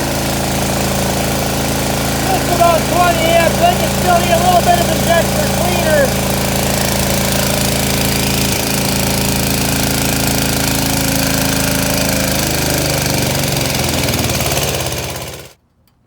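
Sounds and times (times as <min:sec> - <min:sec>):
diesel generator engine running: 0:00.0 - 0:15.6.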